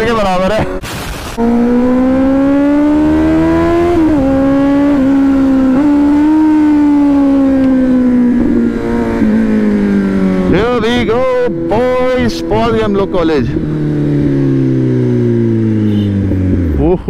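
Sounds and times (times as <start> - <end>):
motorcycle engine revving high: 1.1 - 17.0.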